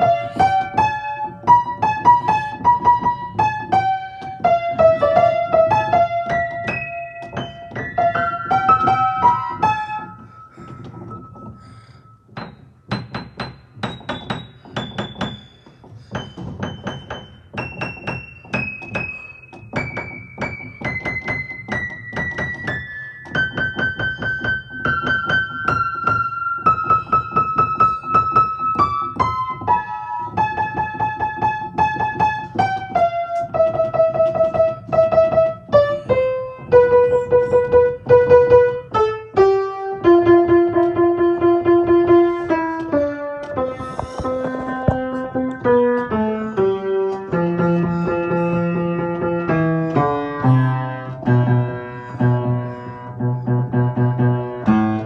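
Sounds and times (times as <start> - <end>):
piano melody: 0.0 - 55.0.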